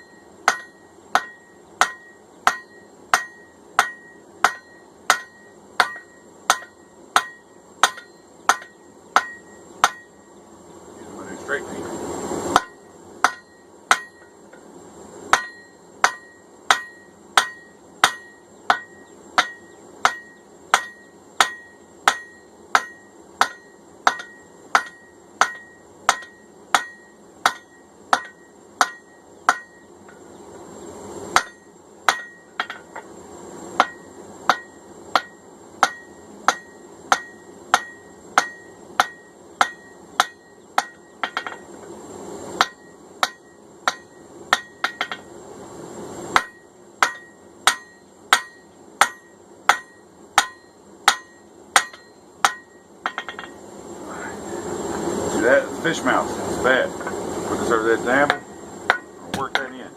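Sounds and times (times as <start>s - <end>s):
hammer striking hot steel on anvil: 0.0s - 10.2s, 12.5s - 14.6s, 15.3s - 30.2s, 31.3s - 33.1s, 33.7s - 41.9s, 42.6s - 45.3s, 46.3s - 53.6s, 57.0s - 59.9s.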